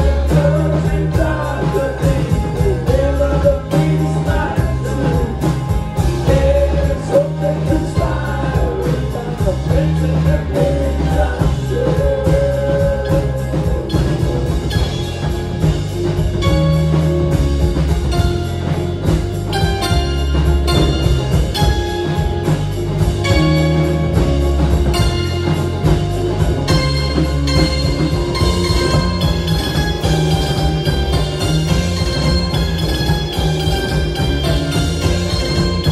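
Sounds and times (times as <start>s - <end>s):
live country band playing: 0.0s - 35.9s.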